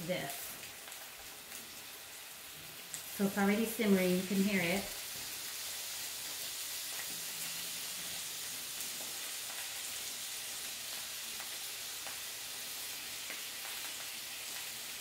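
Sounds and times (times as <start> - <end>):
food sizzling in skillet: 0.0 - 15.0.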